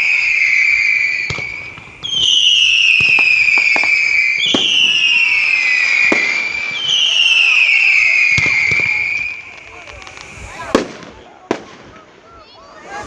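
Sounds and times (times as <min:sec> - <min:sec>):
firework pops and cracks: 0:00.0 - 0:12.6
whistling fireworks: 0:00.0 - 0:13.0.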